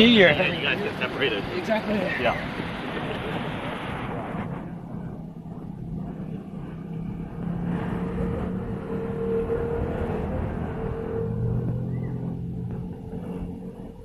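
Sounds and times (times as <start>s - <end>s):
vehicle engine running: 2.4s - 14.0s.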